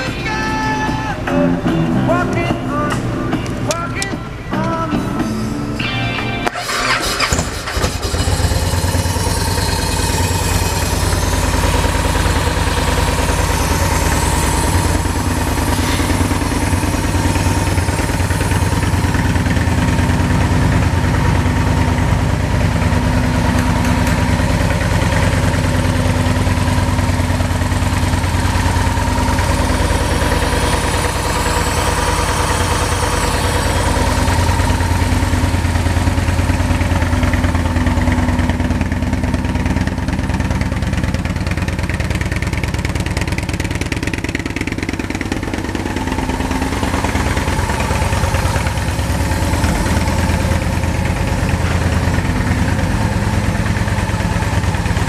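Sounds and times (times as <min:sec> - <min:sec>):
motorcycle engine idling: 0:00.0 - 0:05.4, 0:06.5 - 0:55.0.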